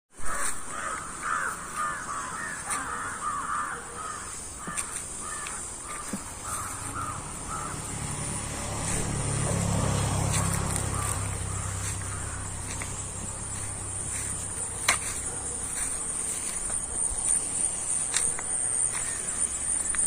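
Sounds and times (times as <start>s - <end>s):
birds calling: 0.2s - 20.0s.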